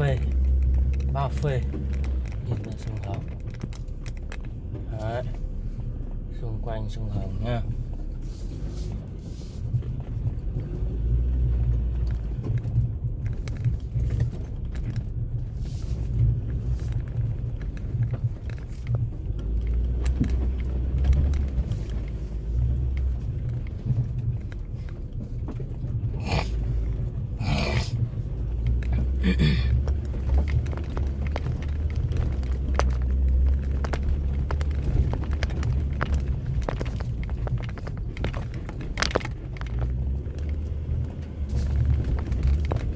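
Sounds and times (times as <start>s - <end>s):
vehicle engine rumble: 0.0s - 42.9s.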